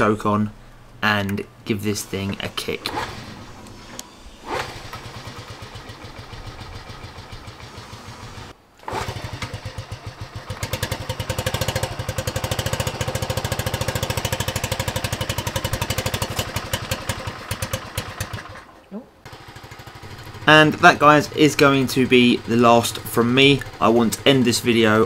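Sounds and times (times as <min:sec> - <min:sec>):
small motorcycle engine puttering: 0:02.8 - 0:25.0.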